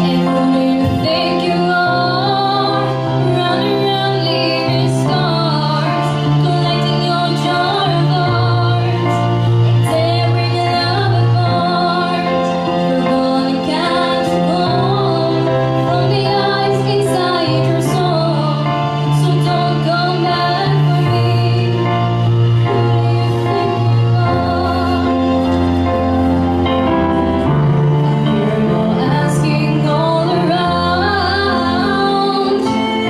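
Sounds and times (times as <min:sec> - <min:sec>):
instrumental accompaniment: 0:00.0 - 0:33.0.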